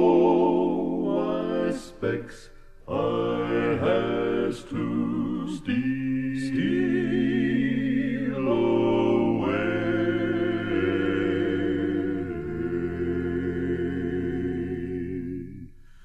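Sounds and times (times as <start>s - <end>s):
male vocal quartet singing harmony: 0.0s - 15.7s.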